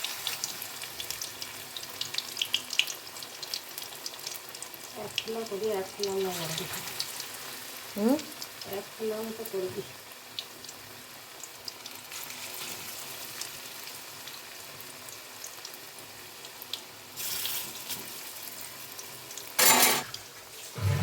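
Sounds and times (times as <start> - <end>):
food deep-frying in hot oil: 0.0 - 21.0.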